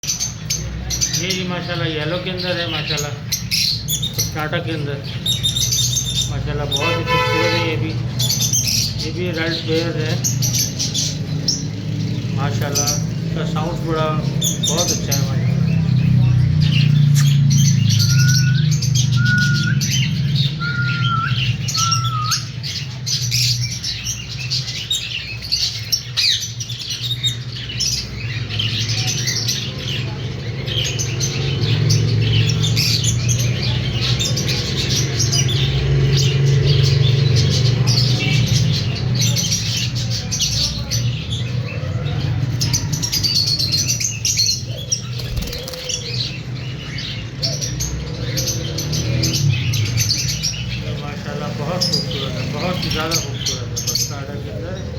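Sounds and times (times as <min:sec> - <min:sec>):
lovebirds chirping and squawking: 0:00.0 - 0:54.9.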